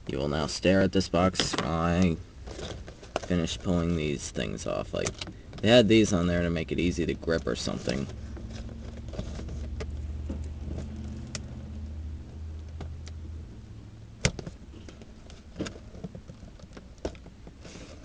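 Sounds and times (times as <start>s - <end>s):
low hum inside car: 0.0s - 17.6s.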